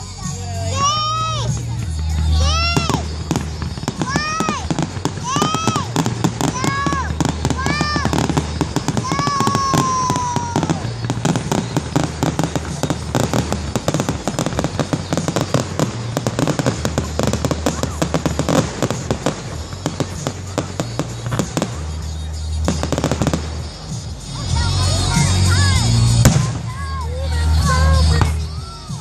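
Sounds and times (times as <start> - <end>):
firework whistle: 0.0 - 29.0
fireworks bangs and crackling: 0.0 - 29.0.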